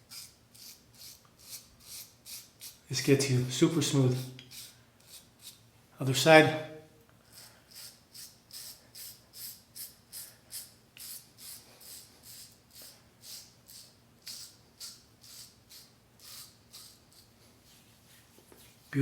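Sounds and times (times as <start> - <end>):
razor scraping stubble: 0.1 - 5.6, 7.3 - 17.4.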